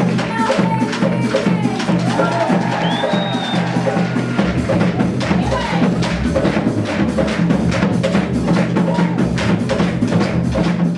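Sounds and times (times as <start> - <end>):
background music with percussion: 0.0 - 10.9.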